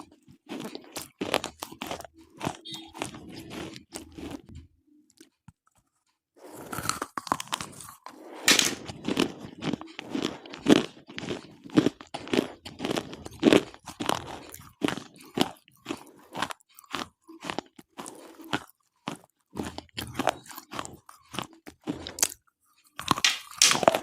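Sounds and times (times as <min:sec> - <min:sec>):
chewing brittle crunches: 0:00.0 - 0:04.6, 0:05.2 - 0:24.0.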